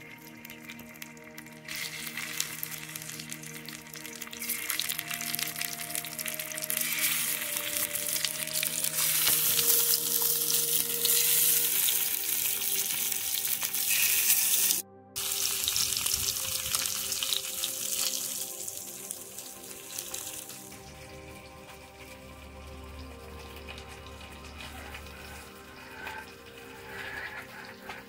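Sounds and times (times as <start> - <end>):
background music tones: 0.0 - 28.0
fish sizzling in hot oil: 0.0 - 28.0.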